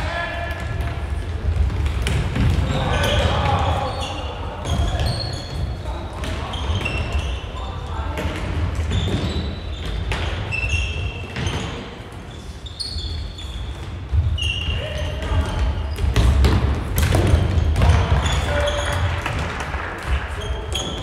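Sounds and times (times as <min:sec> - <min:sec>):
sneakers squeaking: 0:00.1 - 0:21.0.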